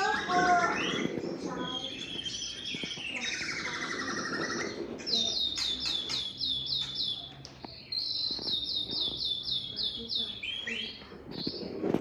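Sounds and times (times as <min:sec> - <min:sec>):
bird singing whistled notes: 0:00.2 - 0:11.7.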